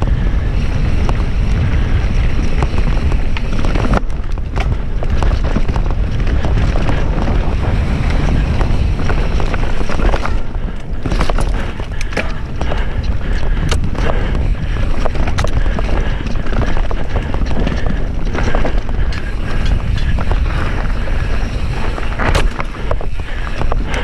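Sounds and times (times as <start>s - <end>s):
bike chain and frame rattling: 0.0s - 24.0s
wind buffeting microphone: 0.0s - 24.0s.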